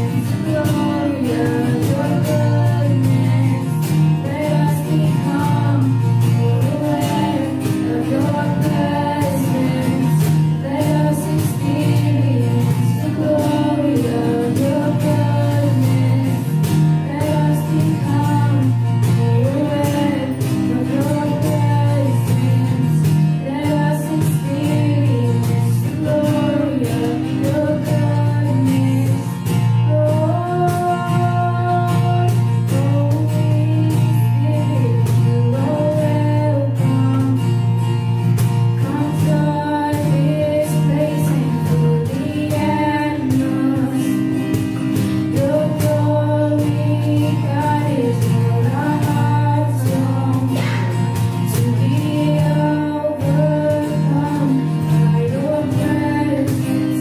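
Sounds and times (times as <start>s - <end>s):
voices singing: 0.0s - 37.6s, 38.6s - 57.0s
guitar: 0.0s - 57.0s.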